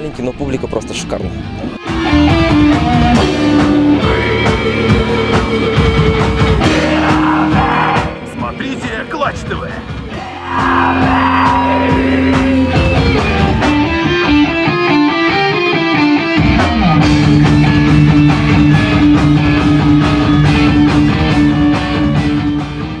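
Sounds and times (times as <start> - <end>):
bass: 0.0 - 23.0
electric guitar melody: 1.2 - 8.4, 10.7 - 23.0
steady drum beat: 1.8 - 14.7, 16.4 - 23.0.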